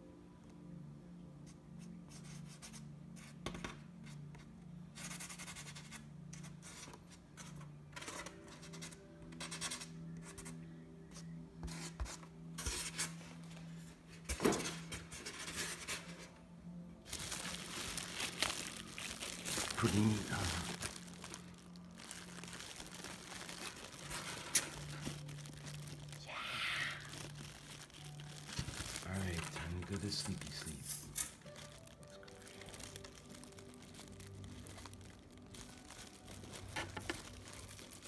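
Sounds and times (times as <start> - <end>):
quiet background music: 0.0 - 38.0.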